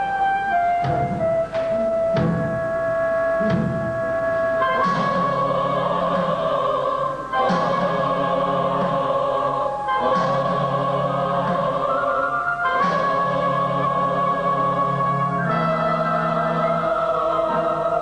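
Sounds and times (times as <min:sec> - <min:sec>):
choir singing held chords: 0:00.0 - 0:18.0
synthesized accompaniment: 0:00.0 - 0:18.0.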